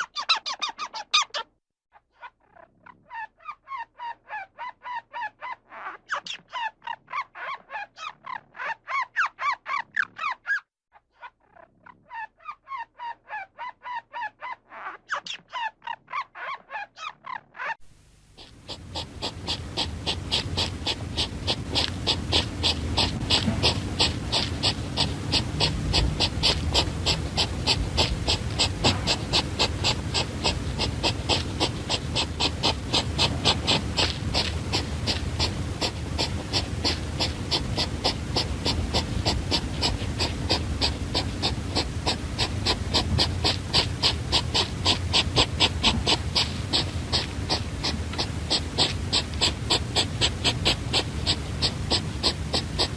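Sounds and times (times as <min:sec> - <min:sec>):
small animal breathy calls: 0:00.0 - 0:01.4, 0:02.2 - 0:10.6, 0:11.2 - 0:17.8, 0:18.4 - 0:52.9.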